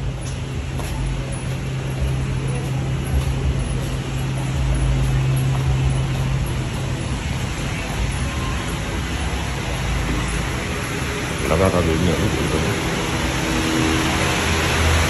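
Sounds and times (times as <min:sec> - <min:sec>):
rumbling background noise: 0:00.0 - 0:15.0.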